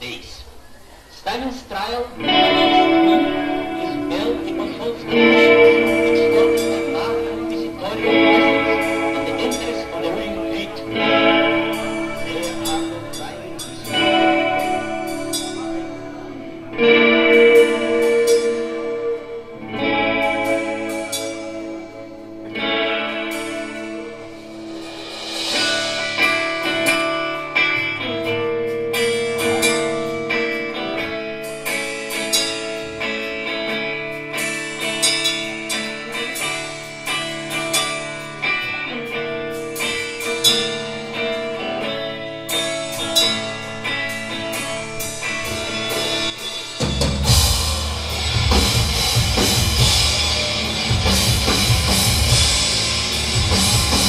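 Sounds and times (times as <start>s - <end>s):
electric guitar ringing notes: 2.0s - 54.0s
punk band playing: 2.1s - 54.0s.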